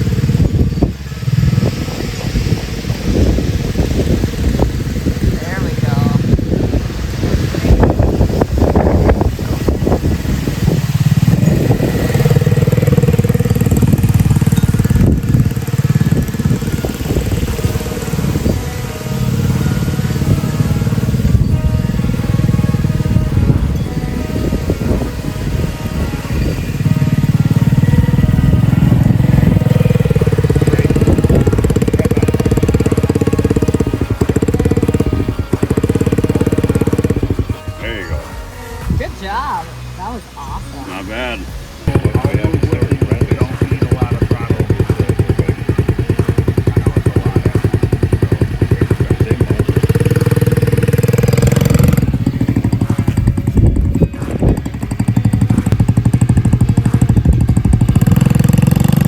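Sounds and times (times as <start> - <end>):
small engine running: 0.0 - 38.9, 40.9 - 59.0.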